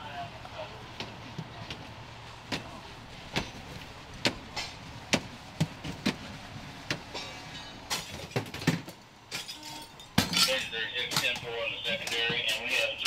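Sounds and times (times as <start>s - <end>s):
fire engine running: 0.0s - 8.0s, 10.3s - 13.0s.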